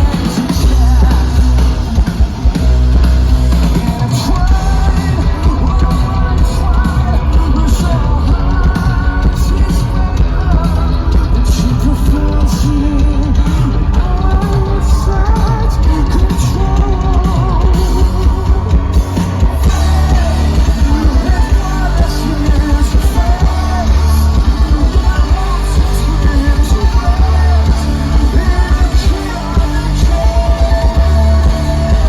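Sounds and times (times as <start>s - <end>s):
band pounding fast hits: 0.0s - 32.0s
lead vocal singing: 0.0s - 32.0s
rock band playing loud: 0.0s - 32.0s.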